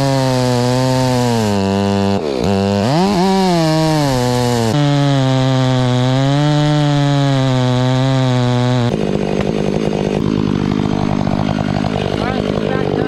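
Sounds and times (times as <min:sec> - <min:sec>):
chainsaw sawing into wood: 0:00.0 - 0:13.0.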